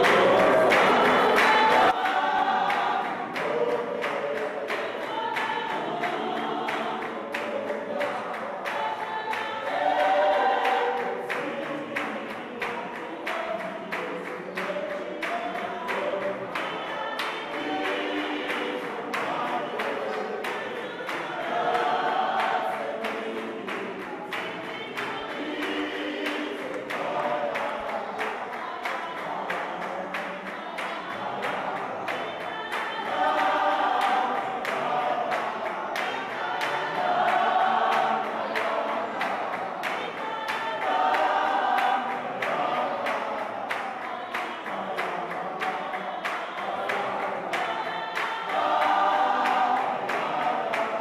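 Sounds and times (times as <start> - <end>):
choir singing unaccompanied: 0.0 - 51.0
hand claps keeping time: 0.0 - 51.0.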